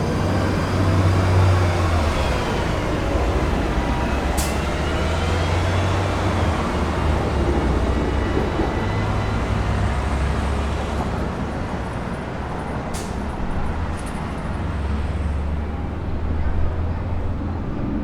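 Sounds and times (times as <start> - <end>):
traffic engine rumble: 0.0 - 18.0.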